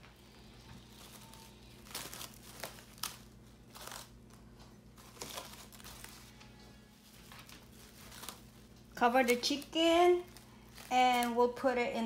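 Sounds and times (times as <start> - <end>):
plastic cling wrap crinkling: 0.0 - 12.0.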